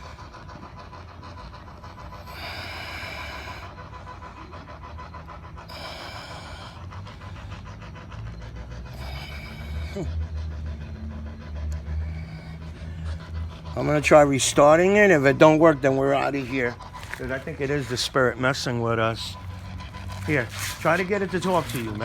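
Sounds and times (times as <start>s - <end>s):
hissing breaths: 0.0s - 22.0s
steady low rumble: 0.0s - 22.0s.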